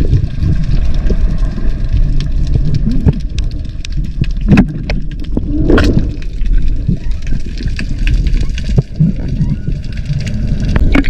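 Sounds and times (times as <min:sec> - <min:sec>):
sharp underwater clicks: 0:00.0 - 0:11.0
underwater rumbling wash: 0:00.0 - 0:11.0.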